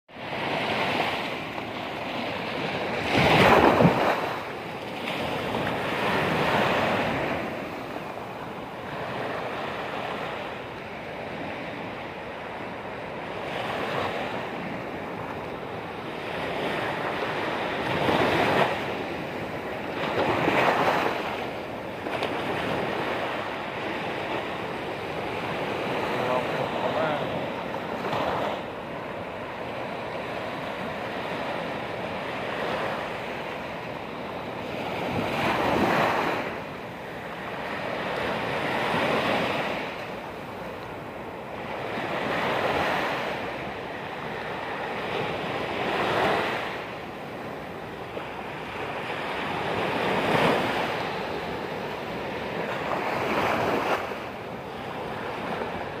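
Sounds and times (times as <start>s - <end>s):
waves crashing on beach: 0.1s - 56.0s.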